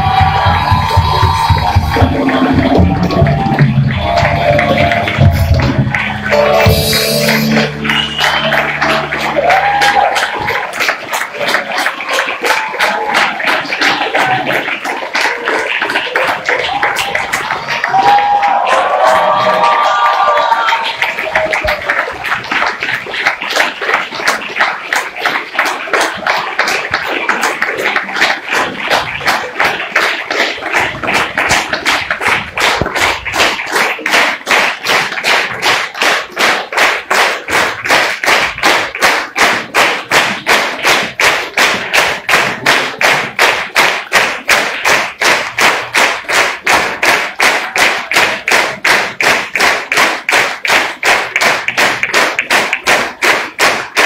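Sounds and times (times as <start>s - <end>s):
audience clapping in rhythm: 0.0s - 54.0s.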